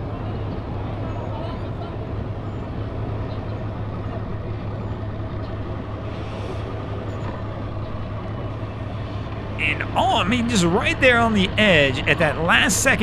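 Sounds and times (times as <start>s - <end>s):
tires spinning: 0.0s - 13.0s
van engine running under load: 0.0s - 13.0s.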